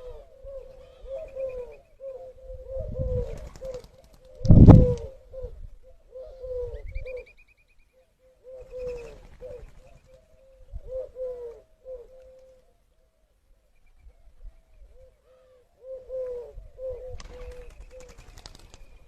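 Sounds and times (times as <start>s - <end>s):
pigeons cooing: 0.0s - 7.4s, 8.0s - 13.3s, 14.2s - 19.0s.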